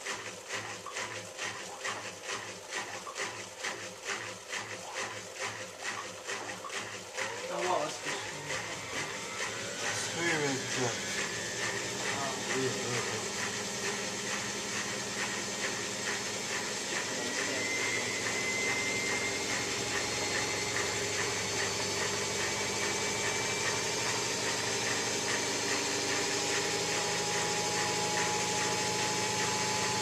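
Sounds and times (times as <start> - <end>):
washing machine spinning: 0.0 - 30.0
thin rising whine: 6.0 - 30.0.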